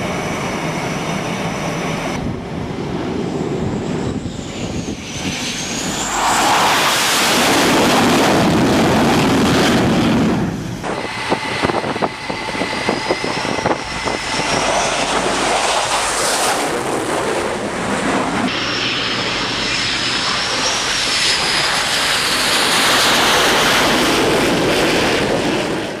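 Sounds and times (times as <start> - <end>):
jet engines roaring: 0.0 - 26.0
turbine whine: 0.0 - 26.0.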